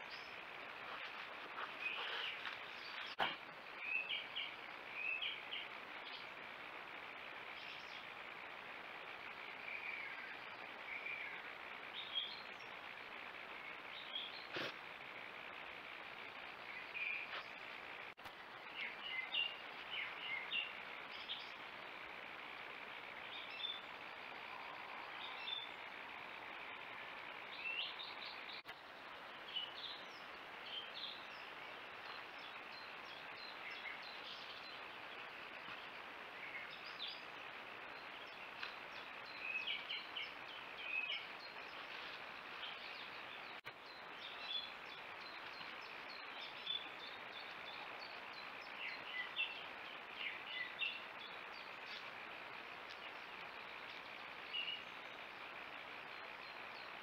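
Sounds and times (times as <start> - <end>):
birds chirping: 0.0 - 57.0
steady hiss: 0.0 - 57.0.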